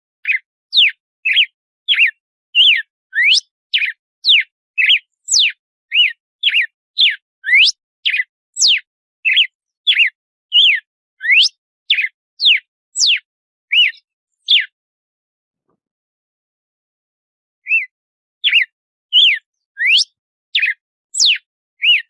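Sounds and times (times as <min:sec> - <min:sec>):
bird singing whistled notes: 0:00.2 - 0:14.8, 0:17.6 - 0:22.0.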